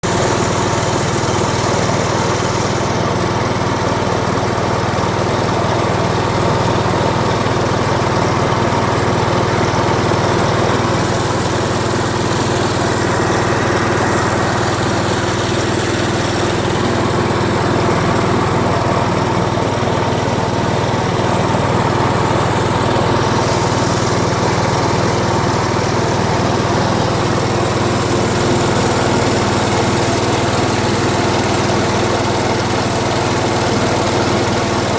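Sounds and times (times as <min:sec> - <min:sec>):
small engine running steadily: 0:00.0 - 0:34.9.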